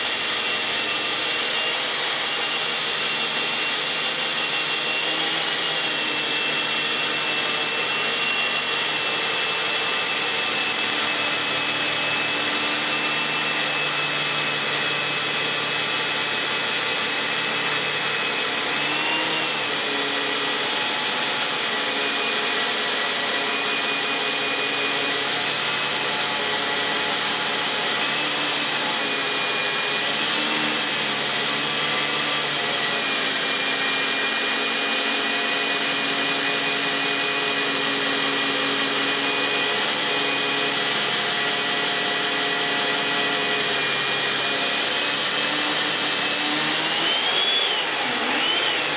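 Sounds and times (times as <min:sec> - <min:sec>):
chainsaw mortiser cutting wood: 0:00.0 - 0:48.9.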